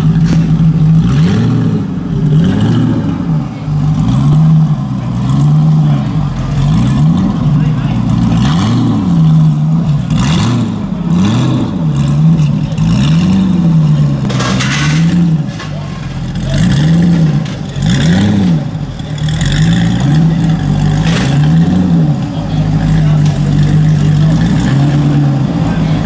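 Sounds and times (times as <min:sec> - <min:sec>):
car engine revving in blips: 0:00.0 - 0:26.0.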